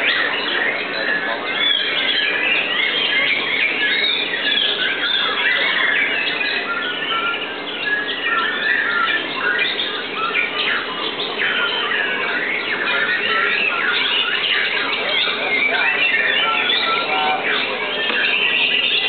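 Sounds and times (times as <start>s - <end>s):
bird whistles and trills: 0.0s - 19.0s.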